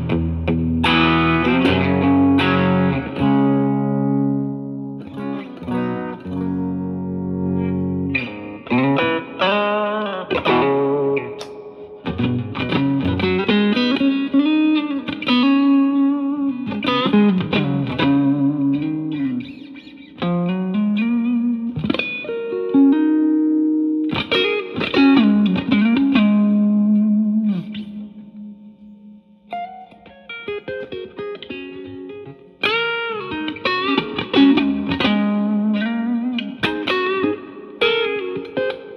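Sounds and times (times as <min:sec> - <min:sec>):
electric guitar lead lines: 0:00.0 - 0:38.9.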